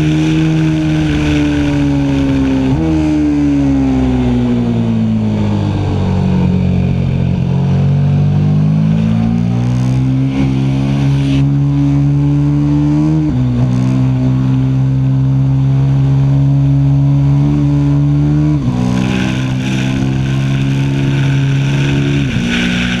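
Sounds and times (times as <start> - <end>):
motorcycle engine running hard: 0.0 - 23.0.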